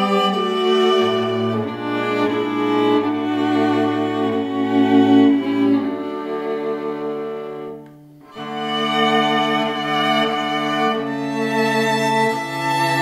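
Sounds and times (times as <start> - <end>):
string quartet playing hymn: 0.0 - 13.0.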